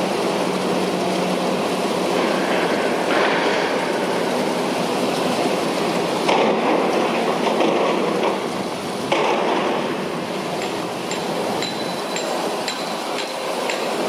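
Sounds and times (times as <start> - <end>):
heavy construction machinery: 0.0 - 14.0.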